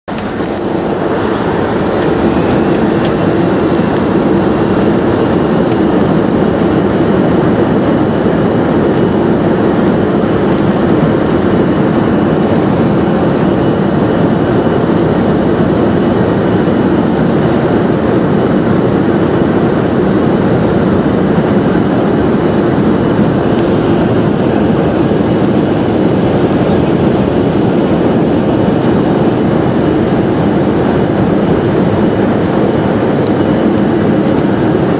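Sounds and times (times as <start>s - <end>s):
jet engines rumbling and whining: 0.0s - 34.9s.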